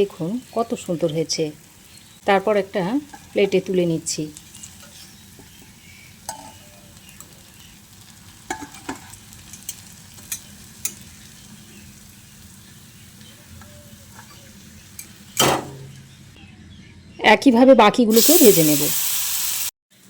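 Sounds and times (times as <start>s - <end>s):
frying sizzle: 0.0s - 16.3s, 18.1s - 20.0s.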